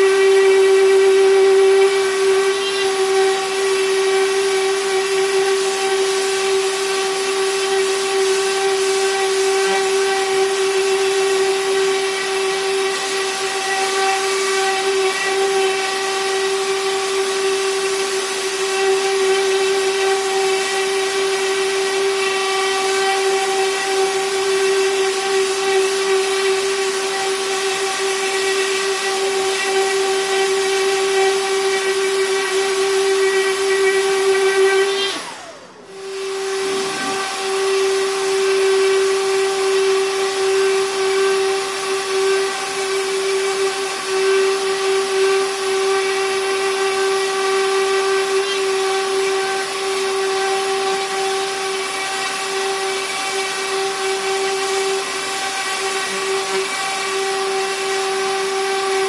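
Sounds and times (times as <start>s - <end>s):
orbital sander motor whine: 0.0s - 59.0s
sanding pad hissing on wood: 0.0s - 59.0s.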